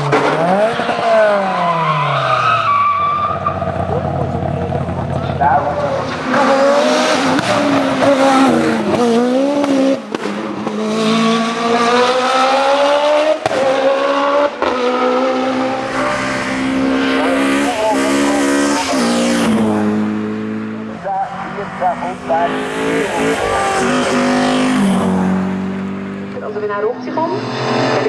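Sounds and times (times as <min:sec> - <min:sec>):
racing car engine at full throttle: 0:00.0 - 0:28.0.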